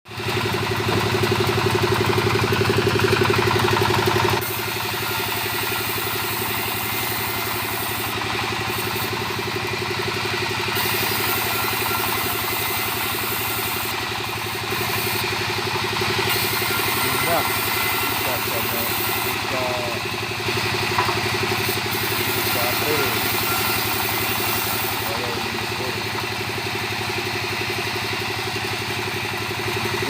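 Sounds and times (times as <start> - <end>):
chainsaw engine running: 0.1 - 30.0.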